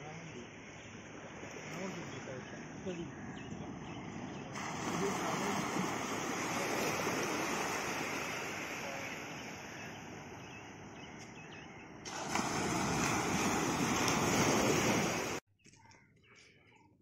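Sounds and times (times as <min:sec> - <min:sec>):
small waves washing on beach: 0:00.0 - 0:15.4.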